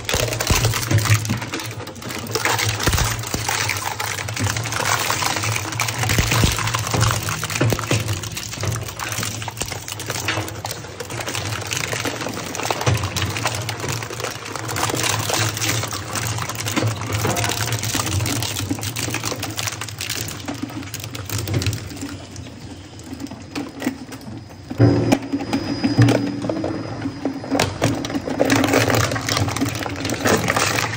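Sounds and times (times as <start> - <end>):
shredder crunching plastic: 0.0 - 22.3, 27.5 - 30.9.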